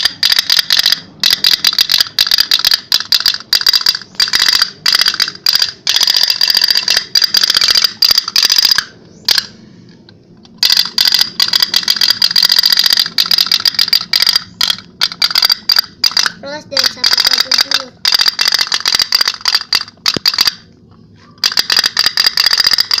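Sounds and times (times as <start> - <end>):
toy steam boat ticking: 0.0 - 9.5, 10.5 - 20.7, 21.4 - 23.0.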